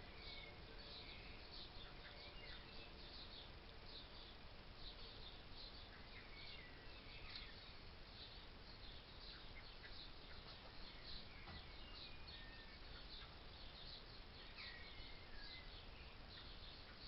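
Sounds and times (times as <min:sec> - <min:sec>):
birds chirping: 0:00.0 - 0:17.0
steady hiss: 0:00.0 - 0:17.0.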